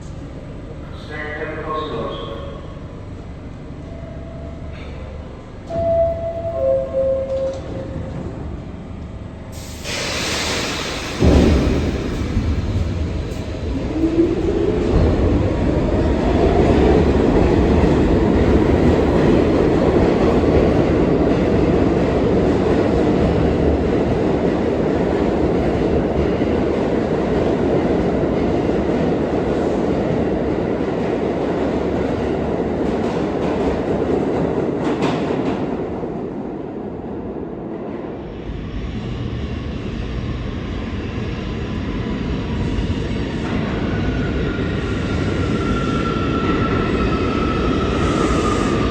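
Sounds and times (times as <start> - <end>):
train rumble and wheel clatter: 0.0 - 48.9.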